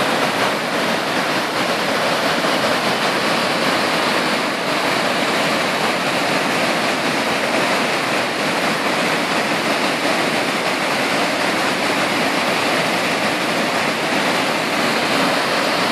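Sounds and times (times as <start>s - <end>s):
water rushing over a weir: 0.0s - 15.9s.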